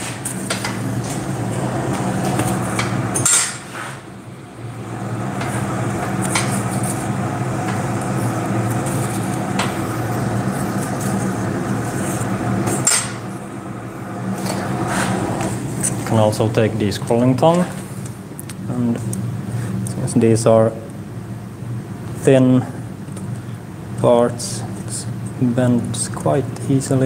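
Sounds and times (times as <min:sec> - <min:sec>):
forge air blower humming: 0:00.0 - 0:27.0.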